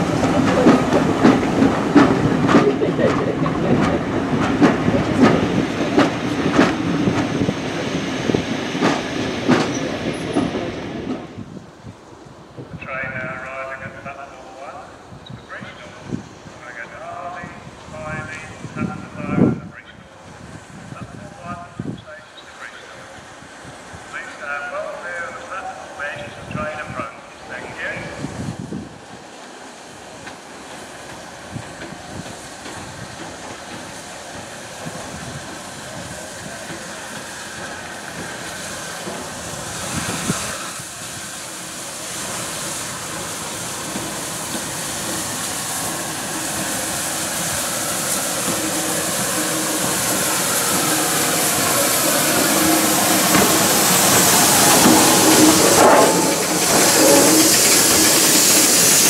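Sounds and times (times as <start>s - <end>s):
steam hissing: 0.0s - 11.6s, 20.1s - 59.0s
steam locomotive arriving: 0.0s - 59.0s.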